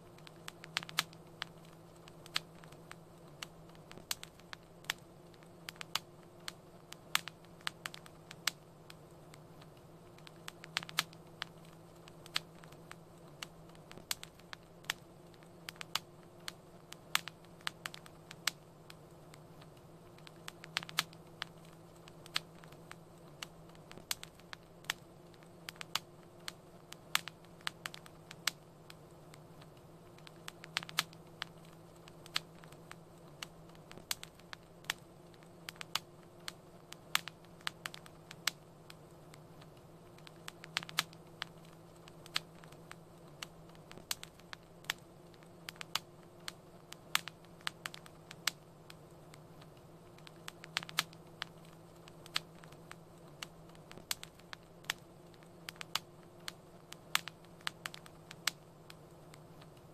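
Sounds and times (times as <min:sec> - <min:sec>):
low steady hum: 0:00.0 - 0:59.9
wood fire crackling: 0:00.0 - 0:59.9.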